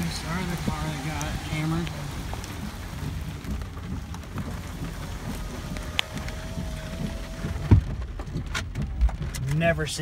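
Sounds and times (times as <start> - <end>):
rain and hail on truck roof: 0.0 - 10.0.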